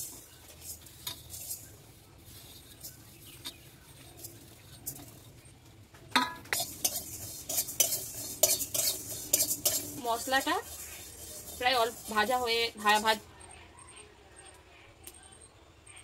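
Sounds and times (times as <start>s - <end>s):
spatula scraping a pan: 0.0s - 13.2s
seeds ticking into metal pan: 0.0s - 15.6s.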